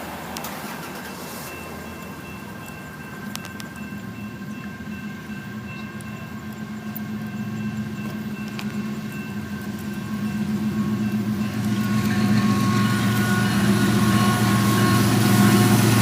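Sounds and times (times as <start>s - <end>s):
diesel locomotive engines droning: 0.0s - 16.0s.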